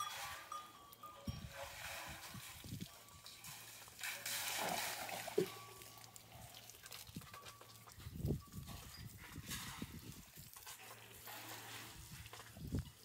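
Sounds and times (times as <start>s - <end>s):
water buffaloes drinking: 0.0s - 13.0s.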